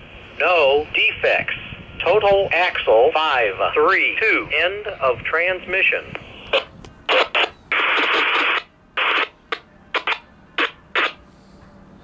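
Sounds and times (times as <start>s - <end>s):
radio static hiss and crackle: 0.0s - 11.6s.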